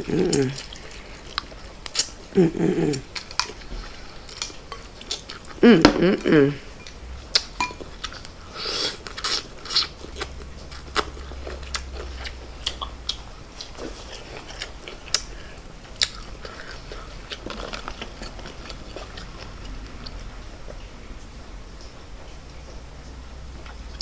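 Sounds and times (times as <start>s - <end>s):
chewing with crackly clicks: 0.2s - 5.6s, 6.8s - 8.4s, 9.0s - 22.8s, 23.6s - 24.0s.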